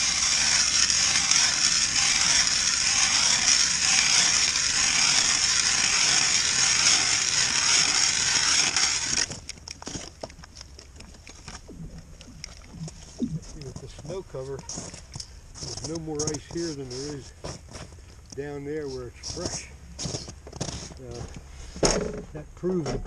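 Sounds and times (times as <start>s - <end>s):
ice auger grinding through ice: 0.0s - 10.2s, 12.5s - 21.2s.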